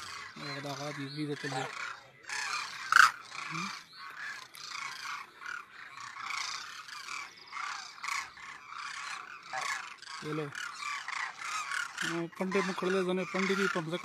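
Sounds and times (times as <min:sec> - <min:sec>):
cranes calling: 0:00.0 - 0:14.0.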